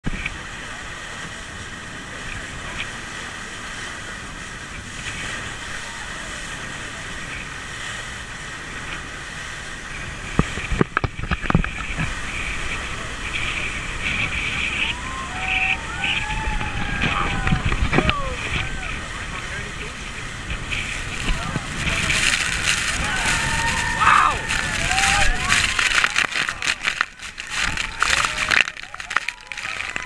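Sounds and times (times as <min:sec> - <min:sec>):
motorboat rush of wind and water: 0:00.0 - 0:30.0.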